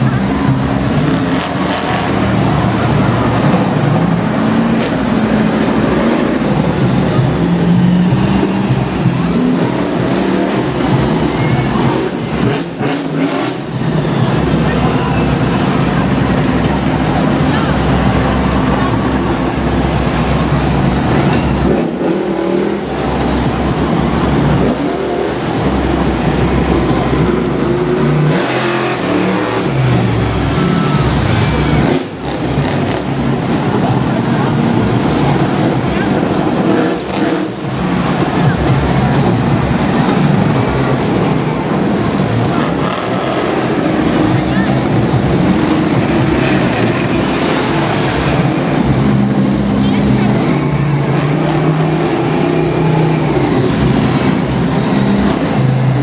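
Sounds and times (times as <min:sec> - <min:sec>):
monster truck engines running: 0:00.0 - 0:56.0.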